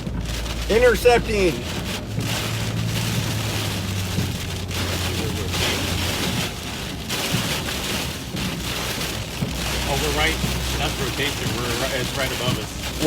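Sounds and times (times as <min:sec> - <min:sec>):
engine and road drone: 0:00.0 - 0:13.0
heavy rain on car windshield: 0:00.0 - 0:13.0.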